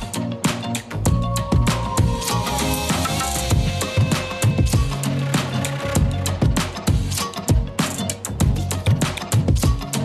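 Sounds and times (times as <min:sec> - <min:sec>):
funk music with drums and bass: 0:00.0 - 0:10.0.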